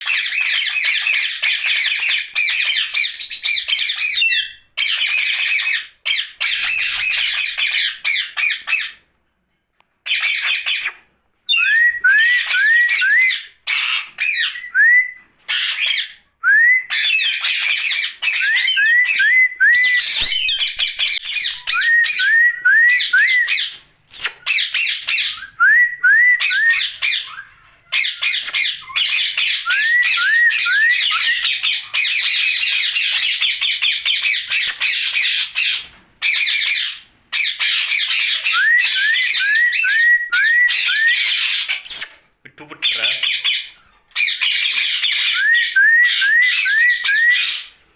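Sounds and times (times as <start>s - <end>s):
parakeet squawking and chattering: 0.0s - 9.0s, 10.0s - 14.7s, 15.4s - 16.3s, 16.9s - 19.2s, 19.8s - 21.9s, 23.5s - 25.5s, 26.7s - 29.9s, 30.5s - 47.8s.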